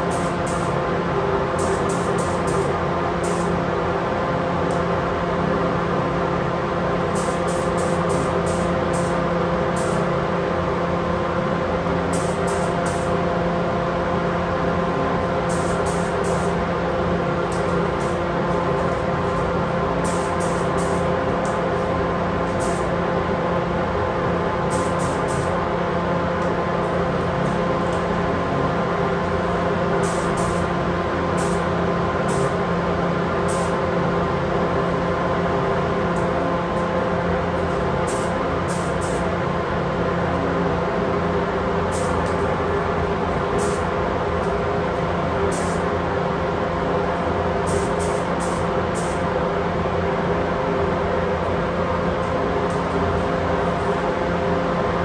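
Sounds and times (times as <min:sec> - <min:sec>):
ventilation fan drone: 0:00.0 - 0:55.0.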